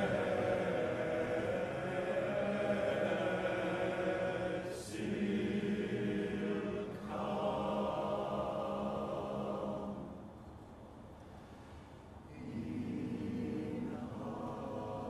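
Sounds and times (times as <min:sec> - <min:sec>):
male voice choir singing: 0:00.0 - 0:10.2, 0:12.3 - 0:15.0.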